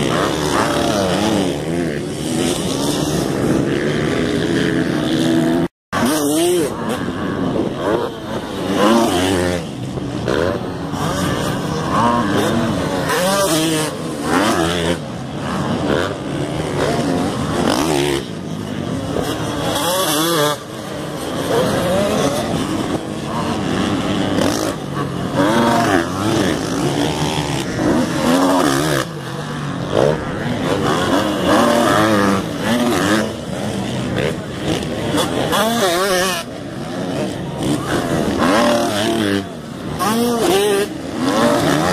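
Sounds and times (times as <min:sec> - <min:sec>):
motocross bikes revving: 0:00.0 - 0:41.9.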